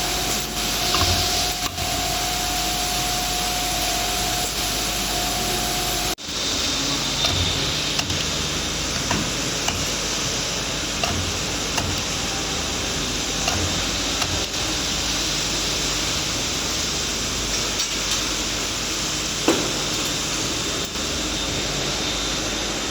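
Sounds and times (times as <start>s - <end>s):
machine mechanical hum and hiss: 0.0s - 22.9s.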